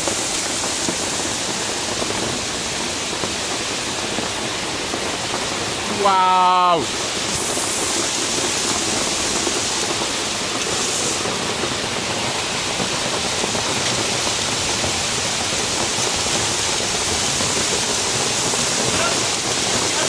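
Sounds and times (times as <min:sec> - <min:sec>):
heavy rain on pavement and roofs: 0:00.0 - 0:20.0.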